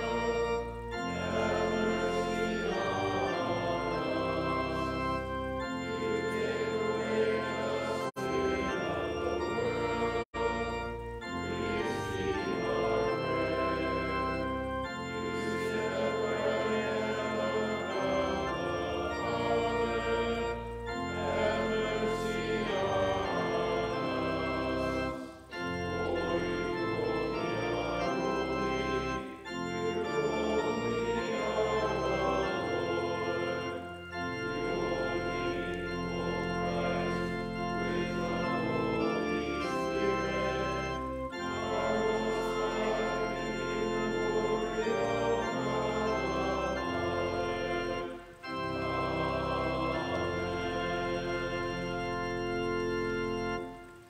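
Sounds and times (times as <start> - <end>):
church organ playing hymn: 0.0 - 54.0.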